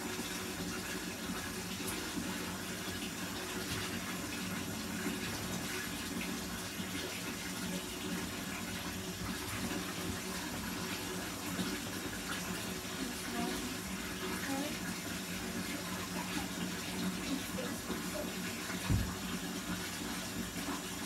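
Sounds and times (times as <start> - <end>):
water running from bathtub tap: 0.0 - 21.0.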